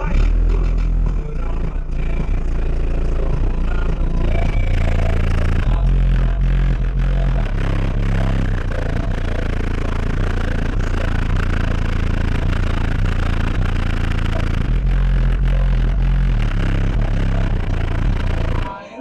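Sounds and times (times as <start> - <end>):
bass-heavy music from subwoofers: 0.0 - 18.8.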